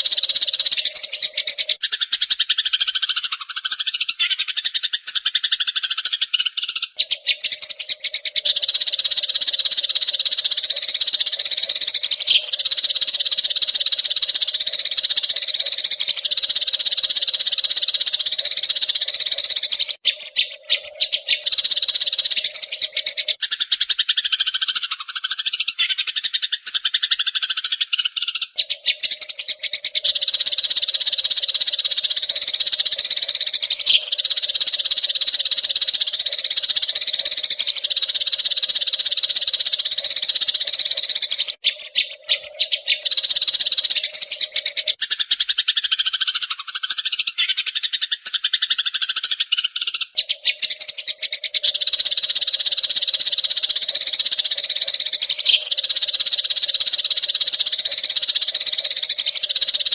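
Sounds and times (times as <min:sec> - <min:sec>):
sparrows chirping and chattering: 0:00.0 - 0:59.9.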